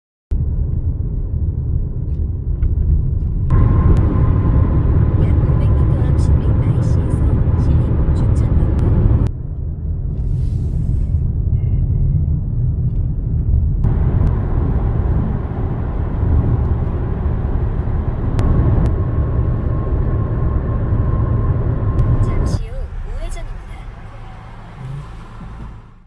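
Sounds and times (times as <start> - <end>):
car driving rumble: 0.3 - 26.0.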